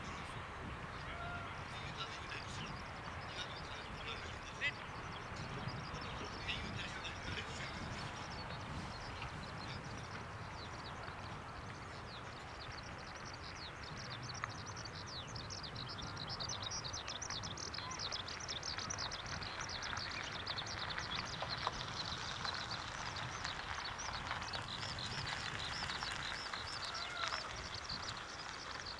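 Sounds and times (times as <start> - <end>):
low outdoor rumble: 0.0 - 28.9
small birds chirping: 0.0 - 28.9.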